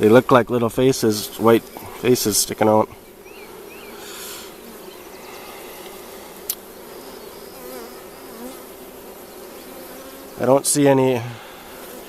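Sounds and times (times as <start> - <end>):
honey bees humming: 0.0 - 12.0.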